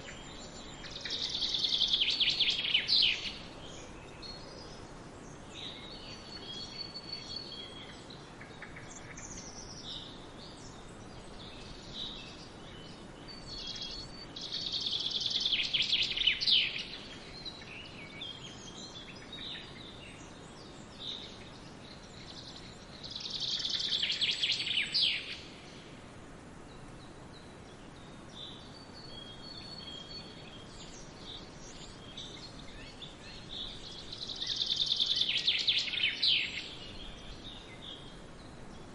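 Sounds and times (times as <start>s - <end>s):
faint background hiss: 0.0s - 38.9s
songbirds chirping and singing: 0.0s - 38.9s.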